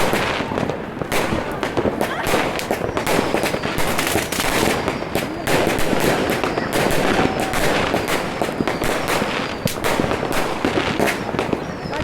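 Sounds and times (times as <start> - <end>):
firecrackers crackling: 0.0 - 12.0
fireworks whistling: 0.0 - 12.0.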